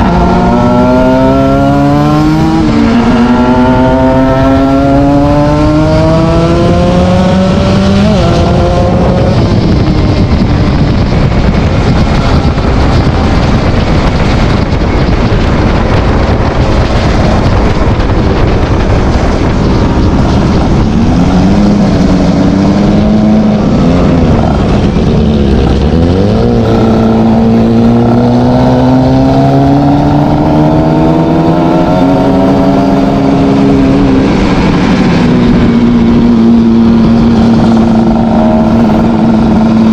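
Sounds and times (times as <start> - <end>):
motorcycle exhaust accelerating: 0.0 - 39.9.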